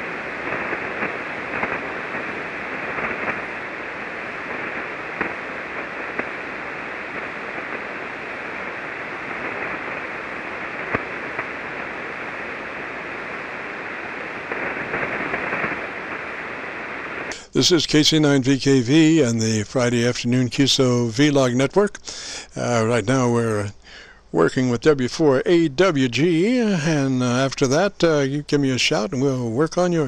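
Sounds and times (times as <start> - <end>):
radio receiver hiss: 0.0 - 30.0
short static pops: 0.0 - 30.0.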